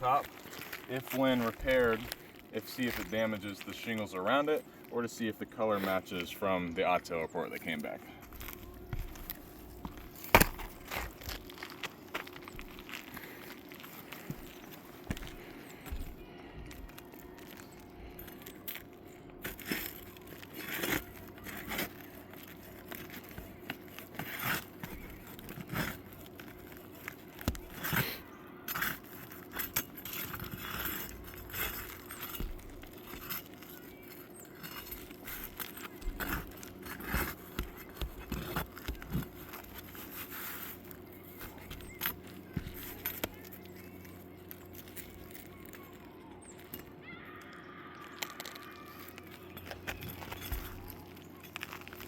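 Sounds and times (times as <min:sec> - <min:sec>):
hand tools scraping roof shingles: 0:00.0 - 0:04.9, 0:05.7 - 0:45.8, 0:48.4 - 0:52.0.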